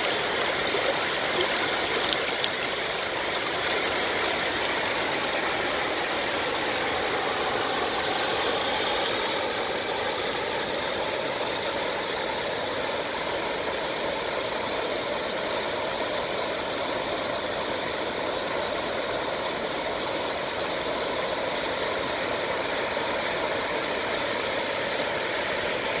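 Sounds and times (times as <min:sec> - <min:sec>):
water rushing over a dam: 0:00.0 - 0:26.0.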